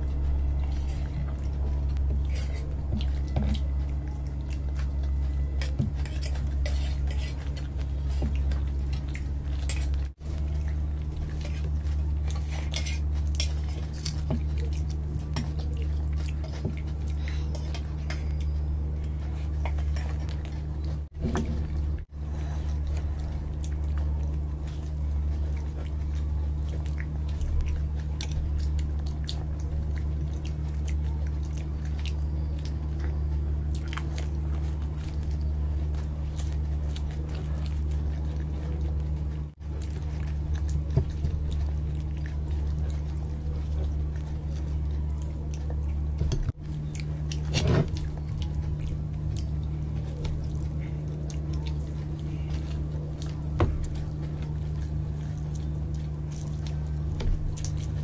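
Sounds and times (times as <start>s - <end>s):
steady low hum: 0.0s - 58.0s
wet chewing with crunches: 0.0s - 58.0s.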